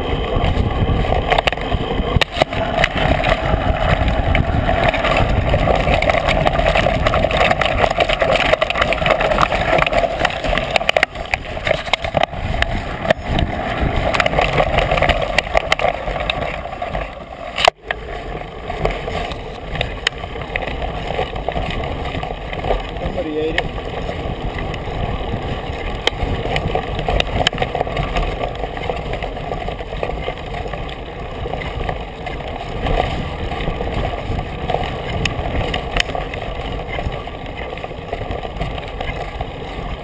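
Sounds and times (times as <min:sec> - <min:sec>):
bike rattling and clattering: 0:00.0 - 0:40.0
tyres rumbling on dirt: 0:00.0 - 0:40.0.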